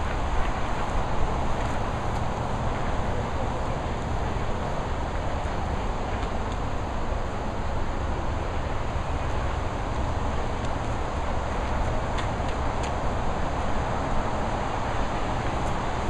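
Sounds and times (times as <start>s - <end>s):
rushing noise with low rumble: 0.0s - 16.0s.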